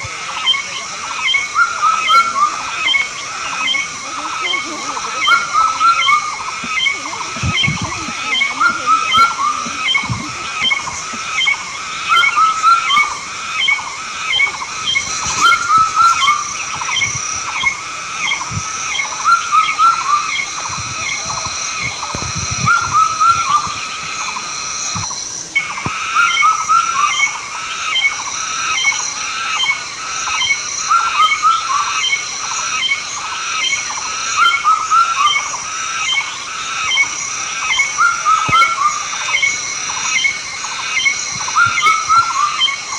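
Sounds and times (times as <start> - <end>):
animal chirping calls: 0.0 - 33.0, 33.6 - 42.9
steady high-pitched whine: 0.0 - 42.9.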